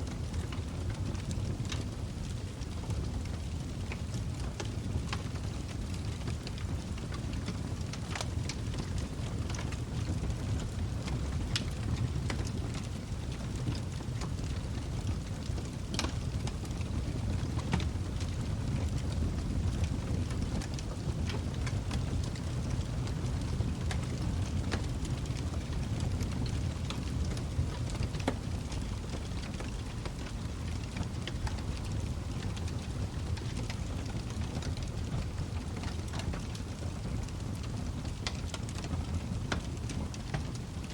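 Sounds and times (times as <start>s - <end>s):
fire crackles and pops: 0.0s - 40.9s
log fire roaring: 0.0s - 40.9s.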